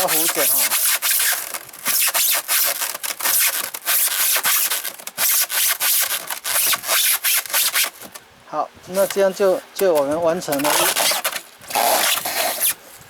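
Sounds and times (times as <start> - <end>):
hole saw rasping through foam: 0.0 - 8.1, 8.9 - 12.9.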